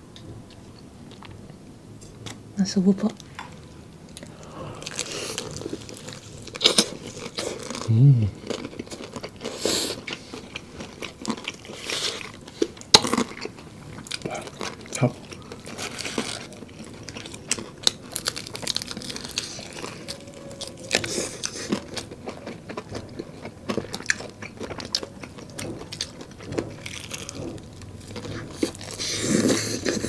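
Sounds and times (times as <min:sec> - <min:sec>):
wet chewing: 0:03.2 - 0:30.0.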